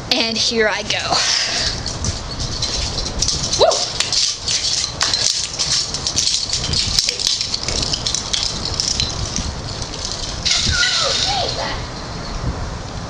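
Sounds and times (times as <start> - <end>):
metal fence rattling: 0.4 - 12.3.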